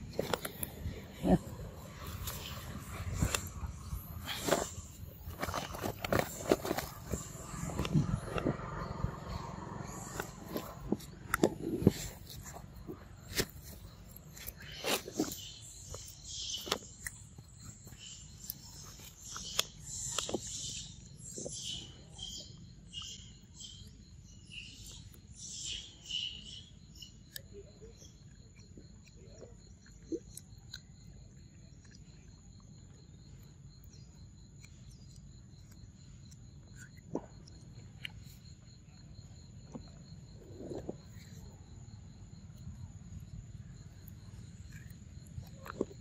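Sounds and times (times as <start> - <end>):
high insect drone: 0.0 - 28.5, 30.8 - 46.0.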